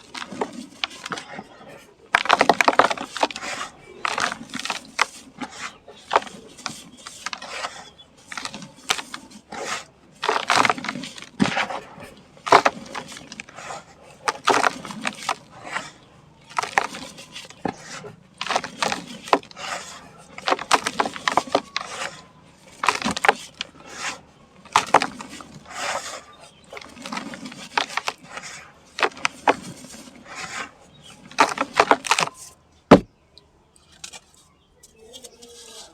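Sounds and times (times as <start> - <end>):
cement chunks crumbling and cracking: 0.0 - 7.5, 8.2 - 11.6, 12.4 - 13.6, 14.2 - 33.1.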